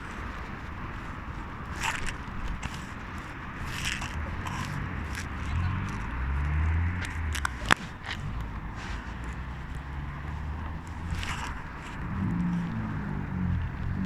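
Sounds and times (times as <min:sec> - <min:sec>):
street traffic noise: 0:00.0 - 0:14.0
vehicle engine passing: 0:00.0 - 0:14.0.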